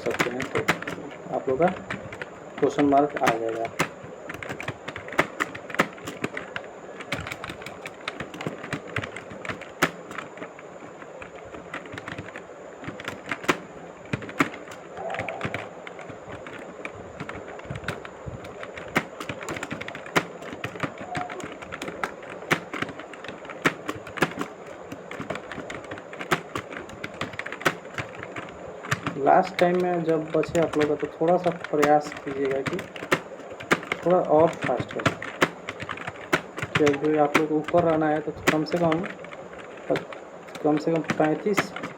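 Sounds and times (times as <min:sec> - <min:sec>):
keyboard typing clicks: 0:00.0 - 0:41.9.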